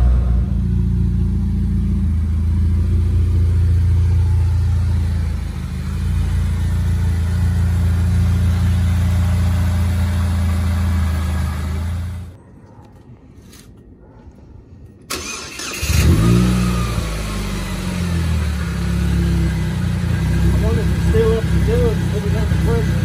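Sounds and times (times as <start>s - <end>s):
car engine running: 0.0s - 12.4s, 15.6s - 23.0s.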